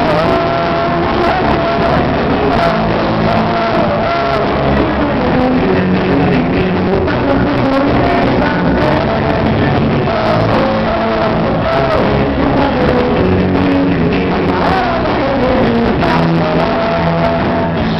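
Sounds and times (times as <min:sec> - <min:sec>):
live band playing loud music: 0:00.0 - 0:17.9
person singing: 0:00.0 - 0:17.9.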